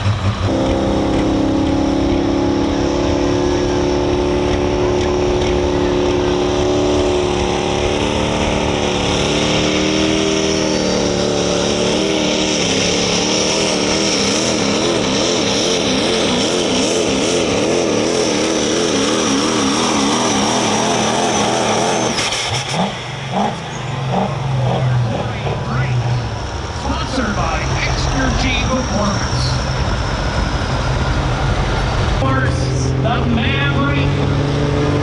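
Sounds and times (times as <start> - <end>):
high whine: 0.0 - 34.4
diesel truck engine under load: 0.0 - 35.0.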